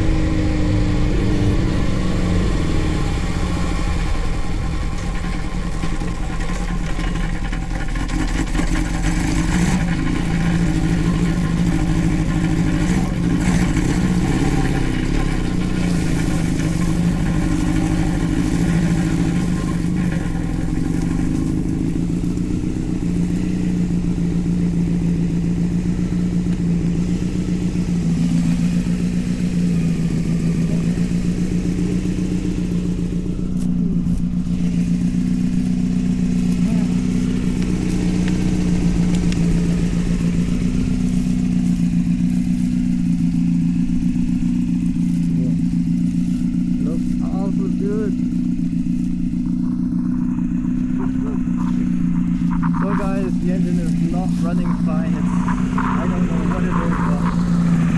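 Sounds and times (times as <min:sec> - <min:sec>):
go-kart engine running: 0:00.0 - 0:57.9.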